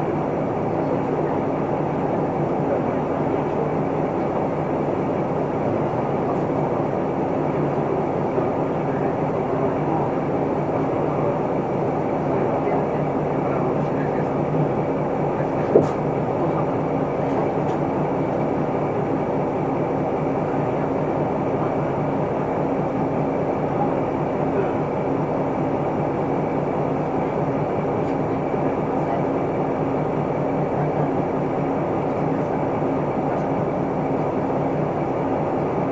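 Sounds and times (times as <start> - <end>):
bus diesel engine: 0.0 - 35.9.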